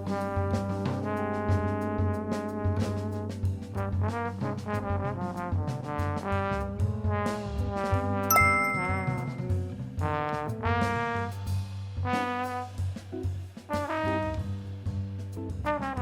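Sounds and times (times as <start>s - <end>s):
horn melody with bass and drums: 0.0s - 8.8s, 10.0s - 16.0s.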